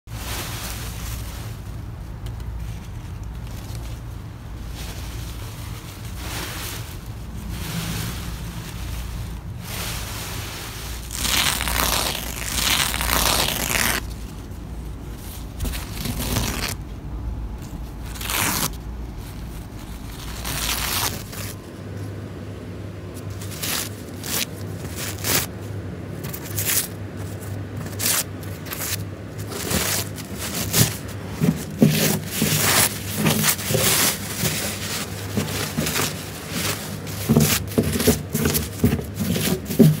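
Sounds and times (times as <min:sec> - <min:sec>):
paper rustling and crinkling: 0:00.1 - 0:22.1, 0:23.1 - 0:40.0.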